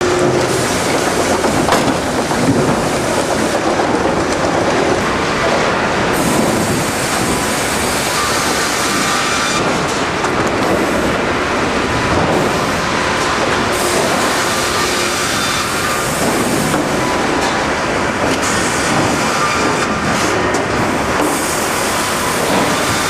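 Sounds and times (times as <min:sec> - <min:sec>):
sawmill machinery clatter: 0:00.0 - 0:23.0.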